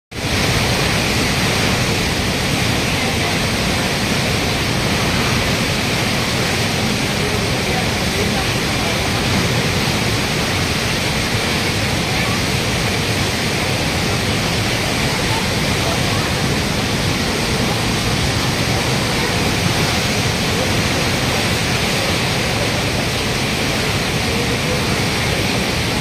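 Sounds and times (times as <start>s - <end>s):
river rushing torrent: 0.1s - 26.0s.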